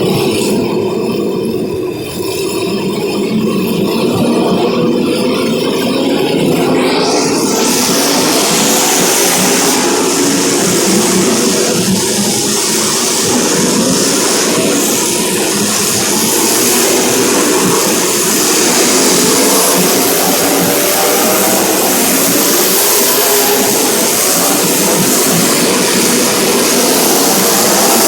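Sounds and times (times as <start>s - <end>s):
race car engines droning: 0.0s - 28.0s.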